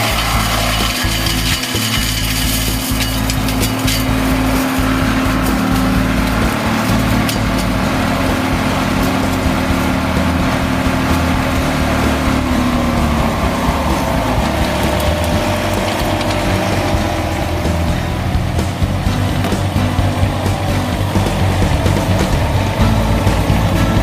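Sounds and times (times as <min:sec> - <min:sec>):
wood chipper engine hum: 0:00.0 - 0:24.0.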